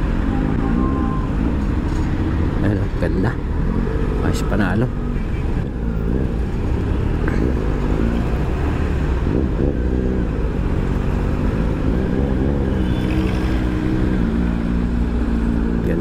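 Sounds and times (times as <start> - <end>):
motorcycle engines at low speed: 0.0 - 16.0.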